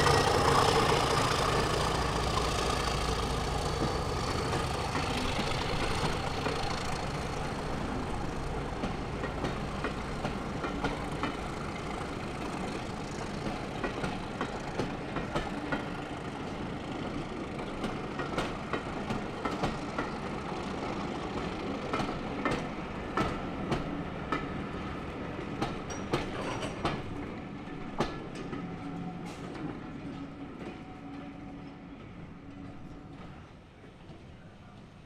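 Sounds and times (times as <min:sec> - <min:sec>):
train wheels clacking over rail joints: 0:00.0 - 0:24.7, 0:25.4 - 0:30.8
train rumble: 0:00.0 - 0:35.0.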